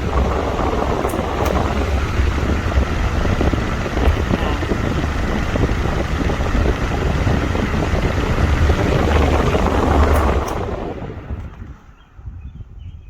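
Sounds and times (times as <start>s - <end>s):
fan airflow rushing: 0.0s - 13.0s
wind buffeting microphone: 0.0s - 13.0s.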